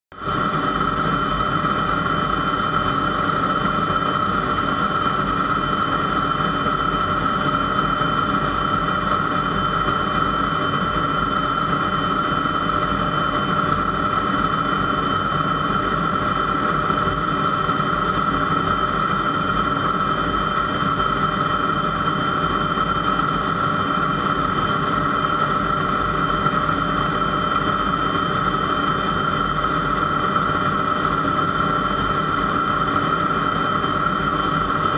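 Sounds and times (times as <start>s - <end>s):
jet engine whining: 0.2s - 34.9s.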